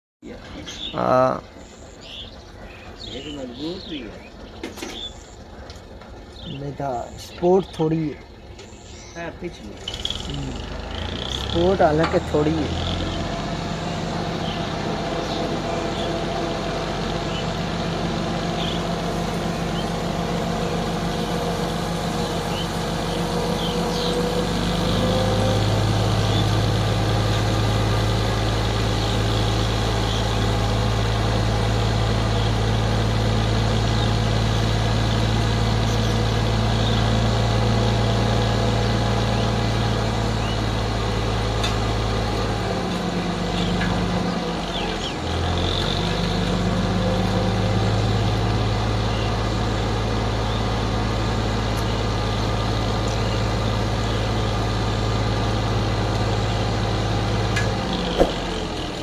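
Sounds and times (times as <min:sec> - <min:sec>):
tractor engine running: 0:00.3 - 0:59.0.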